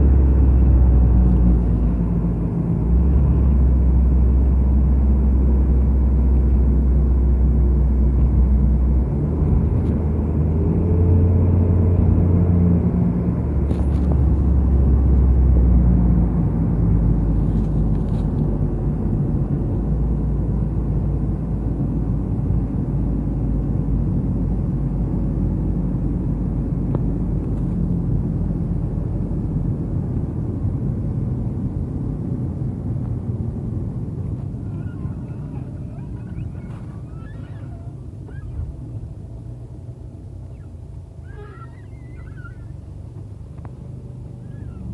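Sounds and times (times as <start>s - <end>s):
car engine drone: 0.0s - 44.9s
road rumble: 0.0s - 44.9s.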